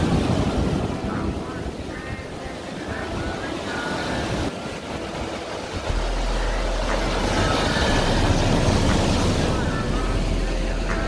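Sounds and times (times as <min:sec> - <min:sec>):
wind buffeting microphone: 0:00.0 - 0:10.0
waves breaking on cobble beach: 0:00.0 - 0:11.0.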